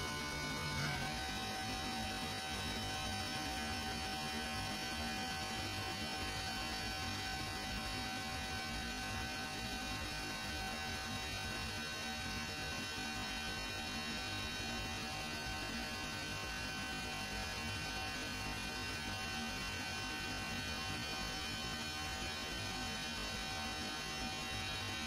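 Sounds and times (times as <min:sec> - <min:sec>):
chiller plant machinery hum: 0:00.0 - 0:25.0.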